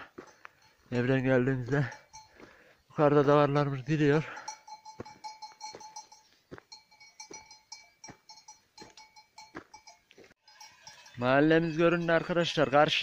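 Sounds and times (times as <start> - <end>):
livestock bells clanking: 0.0 - 13.0.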